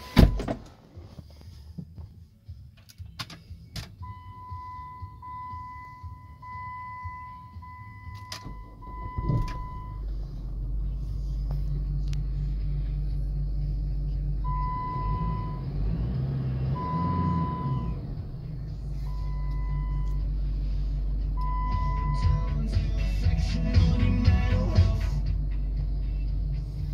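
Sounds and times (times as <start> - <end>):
car engine starting and idling: 0.0 - 26.9.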